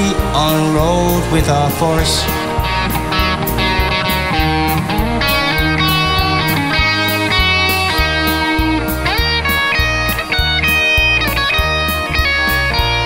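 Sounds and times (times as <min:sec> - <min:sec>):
bass line: 0:00.0 - 0:13.0
electric guitar lead: 0:00.0 - 0:13.0
steady drum beat: 0:00.0 - 0:13.0.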